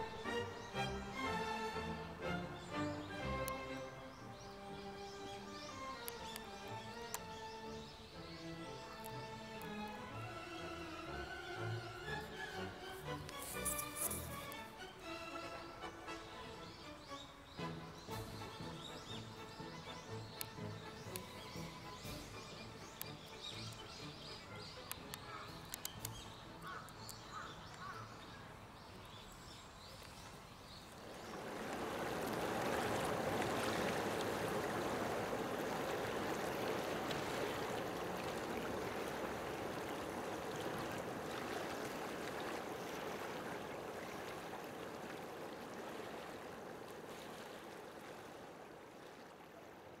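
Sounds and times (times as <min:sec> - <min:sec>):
water flowing: 0:00.0 - 0:50.0.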